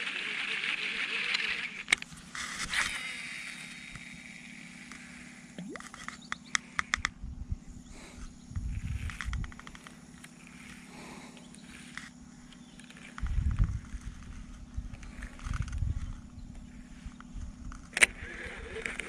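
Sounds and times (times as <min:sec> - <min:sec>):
fishing reel spool whirring: 0:00.0 - 0:07.2, 0:07.8 - 0:19.0.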